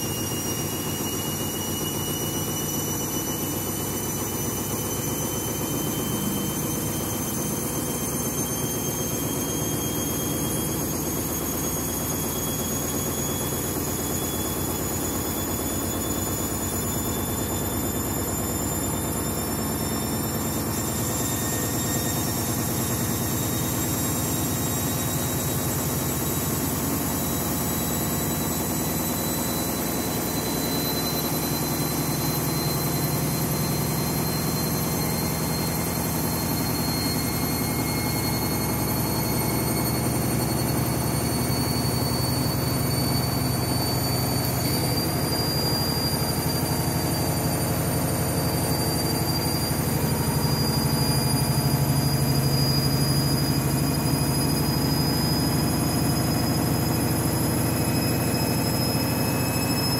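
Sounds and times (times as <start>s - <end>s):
high motor whine: 0.0s - 59.9s.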